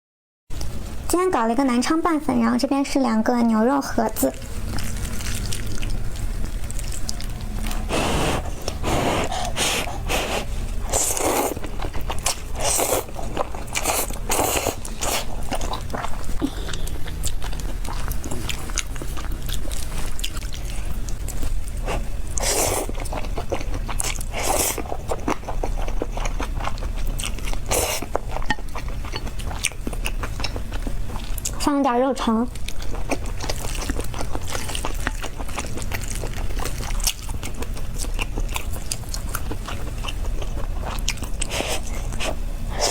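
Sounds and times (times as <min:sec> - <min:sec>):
steady low hum: 0:00.5 - 0:42.9.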